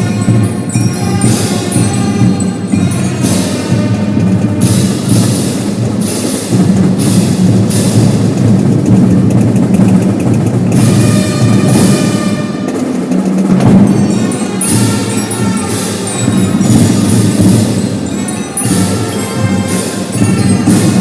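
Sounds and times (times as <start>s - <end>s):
cymbal crashes: 0.0s - 21.0s
marching drum band: 0.0s - 21.0s.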